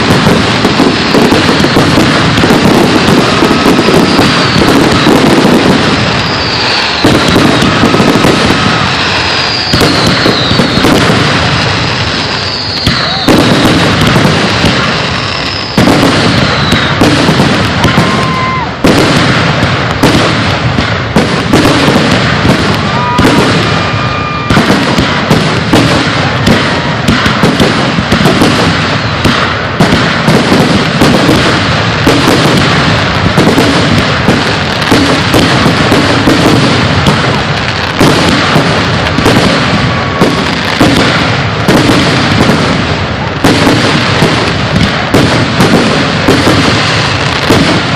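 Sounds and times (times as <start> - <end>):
aerial fireworks bursting: 0.0 - 47.9
firework whistles: 0.0 - 47.9.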